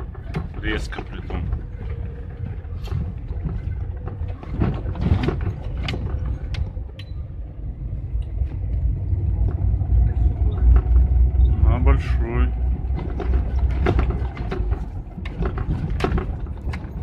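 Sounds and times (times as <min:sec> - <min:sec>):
engine and tyres rumbling: 0:00.0 - 0:17.0
knocks and rattles: 0:00.0 - 0:17.0.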